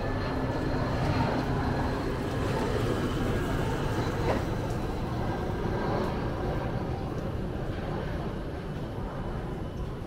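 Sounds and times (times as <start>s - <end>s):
airliner engine rumble: 0.0s - 10.0s
high engine whine: 0.0s - 10.0s.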